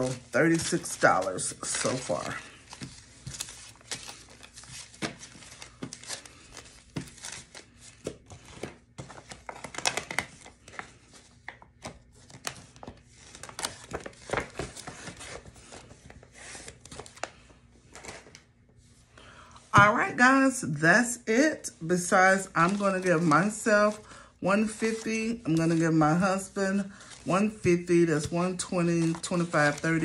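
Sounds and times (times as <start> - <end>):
paper bills rustling: 0.0 - 18.3, 21.9 - 30.0.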